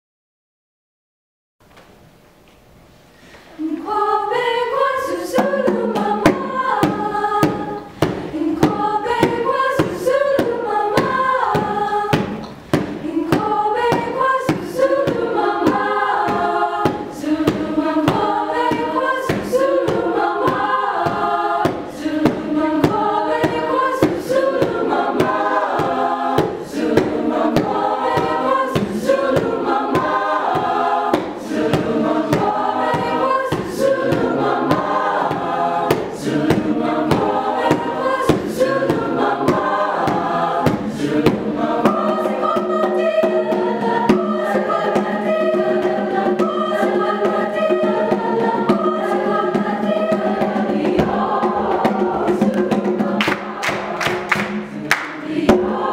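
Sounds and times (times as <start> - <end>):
choir singing: 3.6 - 55.9
steady percussive beat: 5.1 - 55.9.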